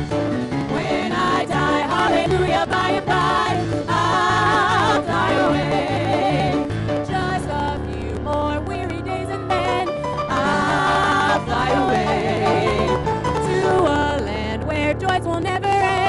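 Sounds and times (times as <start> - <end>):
amplified instrumental backing: 0.0 - 16.0
women singing gospel in harmony: 0.7 - 16.0.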